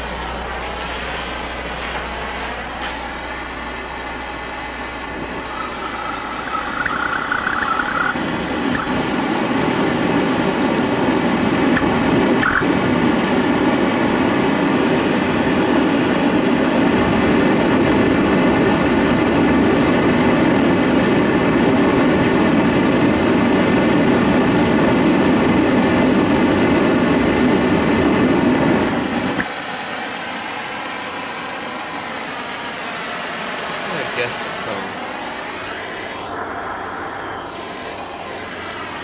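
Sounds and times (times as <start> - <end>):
burner hissing: 0.0 - 39.0
propane burner roaring: 0.0 - 39.0.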